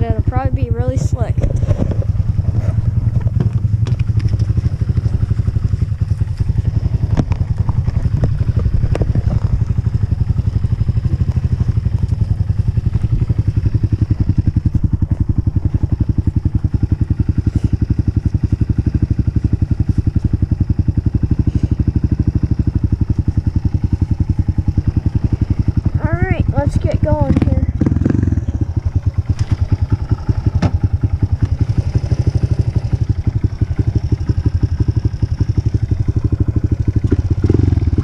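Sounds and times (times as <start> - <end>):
dirt bike engine idling: 0.0 - 38.0.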